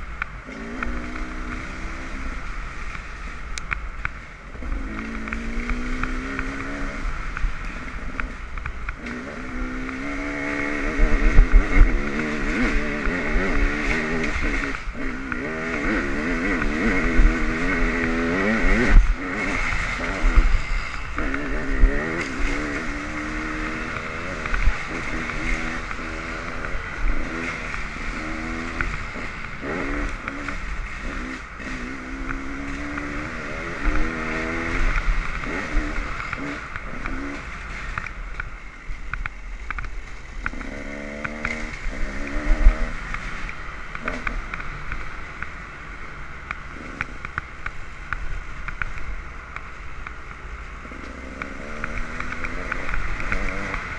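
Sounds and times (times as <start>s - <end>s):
dirt bike engine revving: 0.0s - 3.8s, 4.5s - 38.2s, 40.4s - 45.2s, 50.8s - 53.9s.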